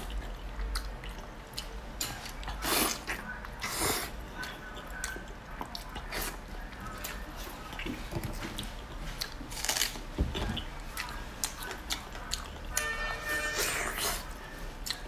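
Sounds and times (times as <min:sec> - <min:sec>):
wet chewing and lip smacking: 0:00.0 - 0:12.8, 0:13.6 - 0:15.0.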